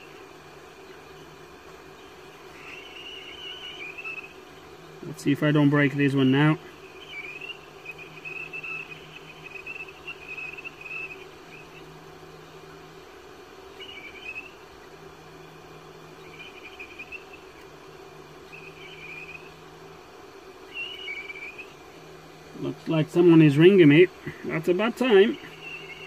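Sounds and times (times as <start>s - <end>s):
low buzz: 0.0s - 26.0s.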